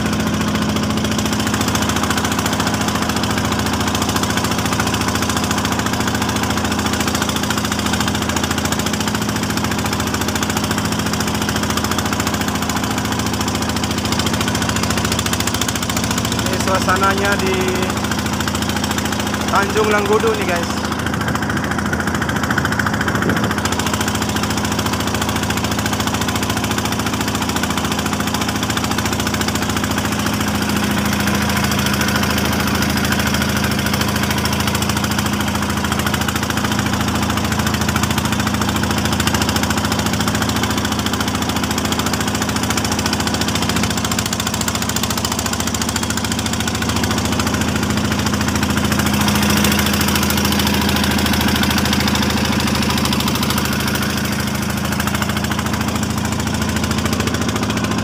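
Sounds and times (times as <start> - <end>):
boat engine running steadily: 0.0 - 58.0.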